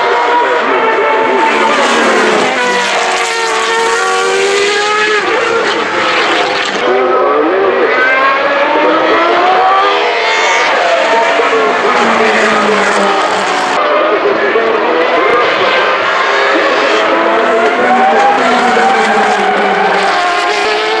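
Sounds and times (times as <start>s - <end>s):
racing car engines revving: 0.0s - 21.0s.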